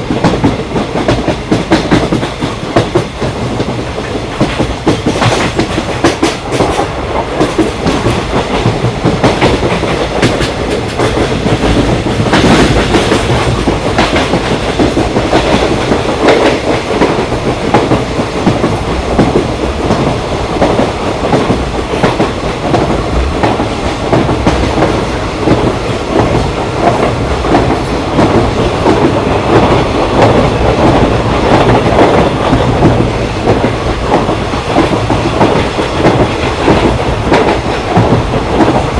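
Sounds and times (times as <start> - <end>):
train rumbling on track: 0.0 - 38.9
wheels clacking over rail joints: 0.2 - 38.9.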